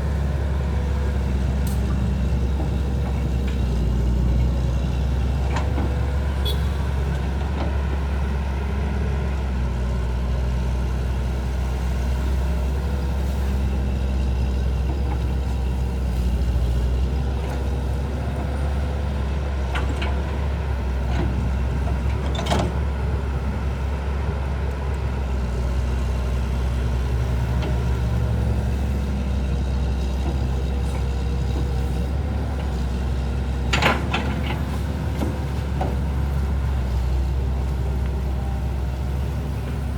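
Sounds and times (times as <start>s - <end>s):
engine running with low hum: 0.0s - 39.9s.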